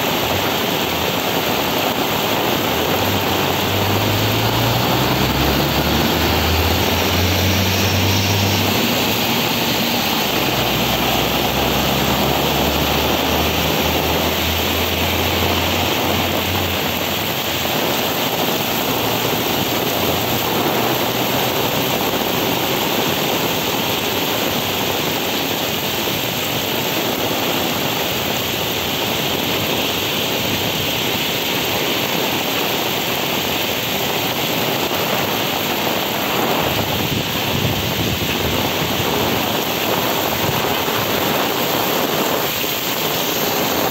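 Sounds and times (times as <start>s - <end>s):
heavy rain on pavement: 0.0s - 43.9s.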